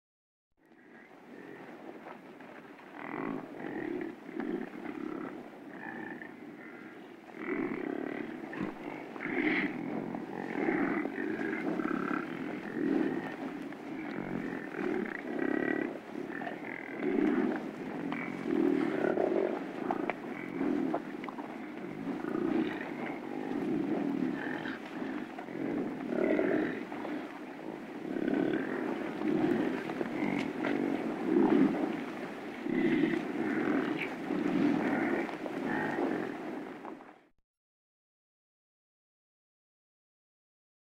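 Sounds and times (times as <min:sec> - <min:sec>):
wildebeest grunting: 0:00.7 - 0:01.8, 0:02.9 - 0:36.4.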